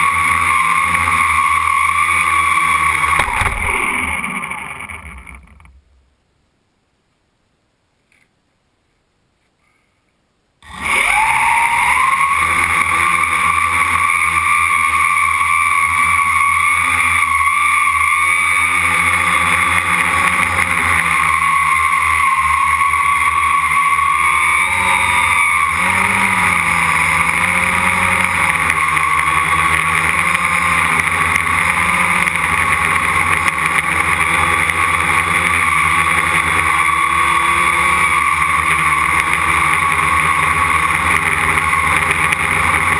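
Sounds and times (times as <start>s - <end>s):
quadcopter propellers whining: 0.0s - 5.8s, 10.6s - 42.9s.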